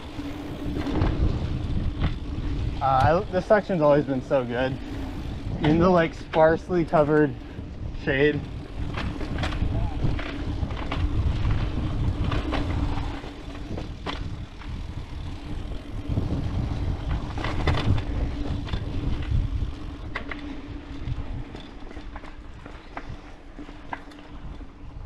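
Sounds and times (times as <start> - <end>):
tyres rolling rumble: 0.0 - 24.1
bike clicking and rattling: 0.0 - 25.0
wind: 0.0 - 25.0.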